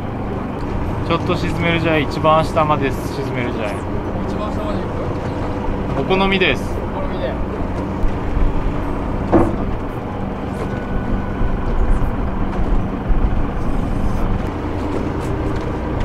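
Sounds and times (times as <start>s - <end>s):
boat engine running: 0.0s - 16.0s
wind rumble: 0.0s - 16.0s.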